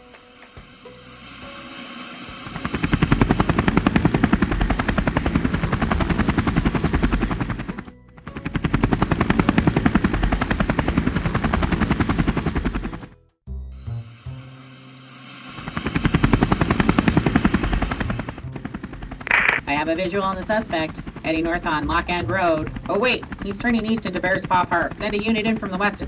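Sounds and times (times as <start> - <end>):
helicopter rotor blades chopping: 2.4 - 13.2, 15.4 - 26.0.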